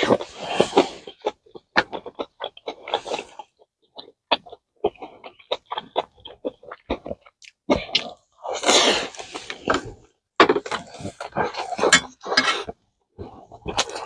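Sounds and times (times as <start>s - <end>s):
close chewing with lip smacks: 0.0s - 14.0s.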